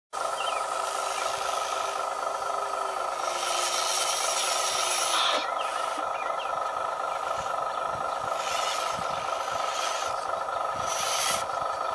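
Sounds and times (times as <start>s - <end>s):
lower motor tone sagging: 0.2s - 11.9s
small electric motors whining: 0.4s - 11.9s.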